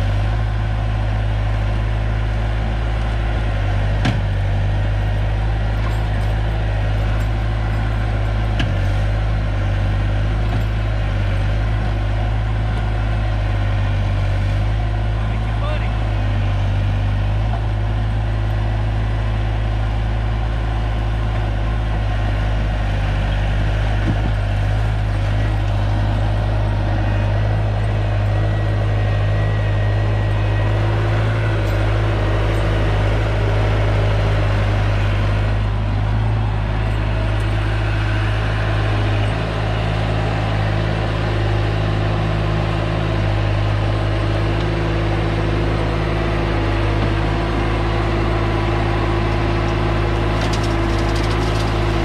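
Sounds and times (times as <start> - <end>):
loader diesel engine drone: 0.0 - 52.0.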